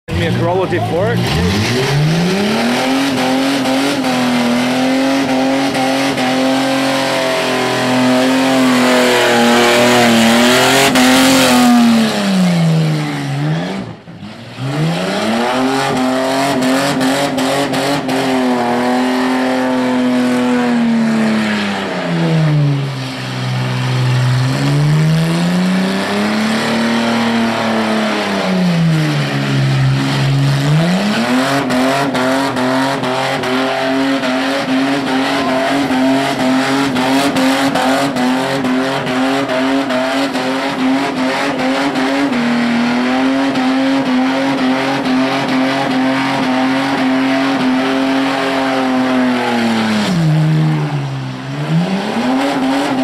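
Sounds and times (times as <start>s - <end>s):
car engine revving hard: 0.1s - 53.0s.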